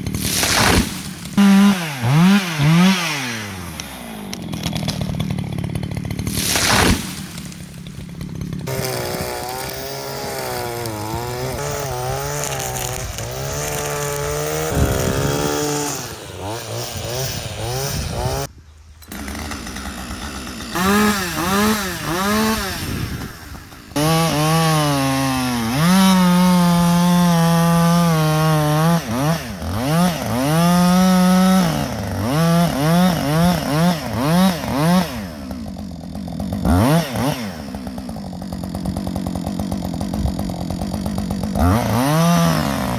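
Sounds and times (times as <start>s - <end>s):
chainsaw revving while cutting wood: 0.0s - 42.9s.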